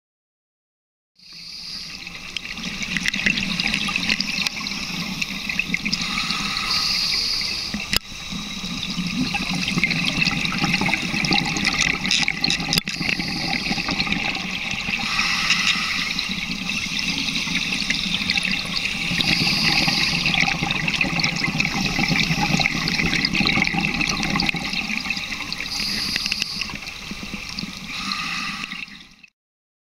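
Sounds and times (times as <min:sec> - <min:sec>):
diver's exhaled bubbles: 0:02.6 - 0:29.2.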